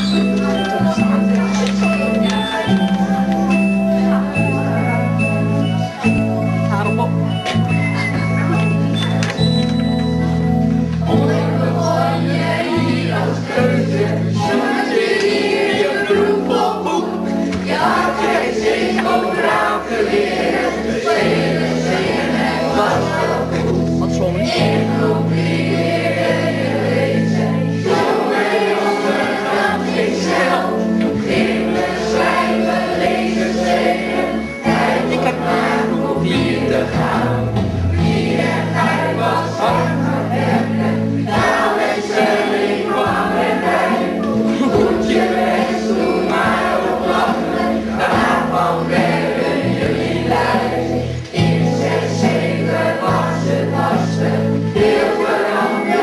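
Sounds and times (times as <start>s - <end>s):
group singing: 0.0s - 6.2s, 10.8s - 56.0s
instrumental accompaniment: 0.0s - 56.0s.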